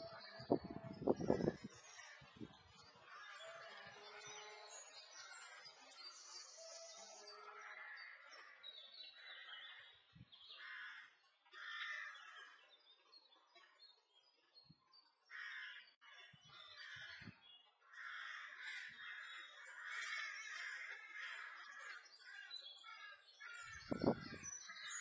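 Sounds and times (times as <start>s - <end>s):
faint birdsong: 0.0s - 25.0s.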